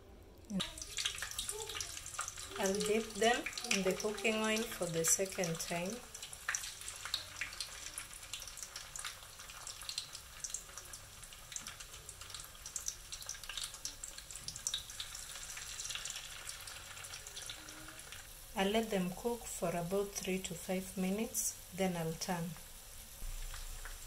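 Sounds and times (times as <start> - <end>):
food sizzling in hot oil: 0.5 - 24.0.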